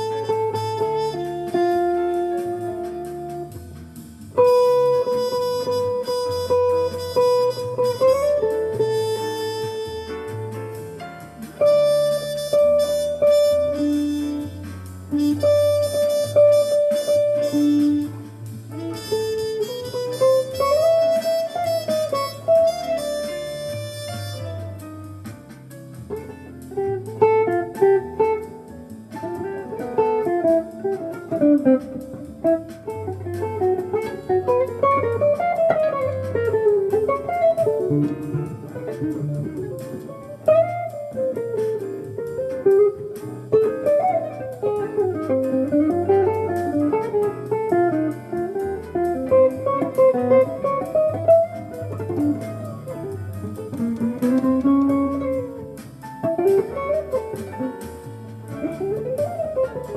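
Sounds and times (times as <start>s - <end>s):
jazz lead instrument: 0.0s - 59.9s
plucked guitar: 0.0s - 59.9s
walking bass line: 0.0s - 59.9s.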